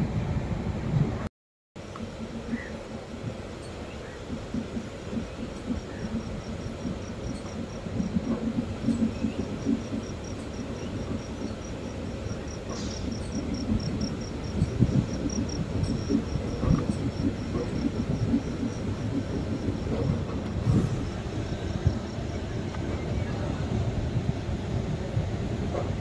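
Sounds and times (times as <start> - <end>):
train rumbling and rattling: 0.0 - 26.0.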